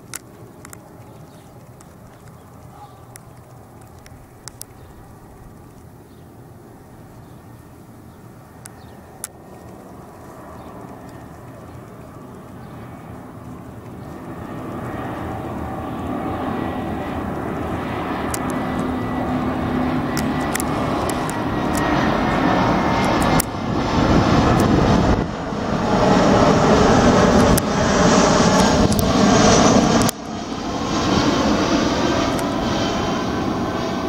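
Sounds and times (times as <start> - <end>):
airliner engine noise: 0.0 - 34.0.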